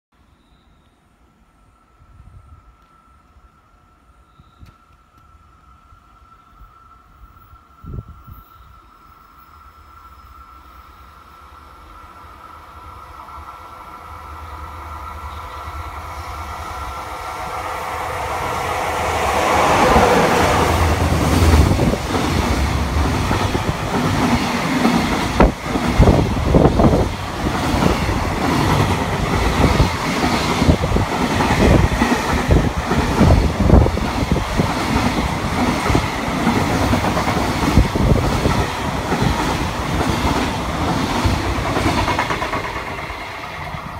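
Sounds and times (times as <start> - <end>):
freight train passing: 1.0 - 43.9.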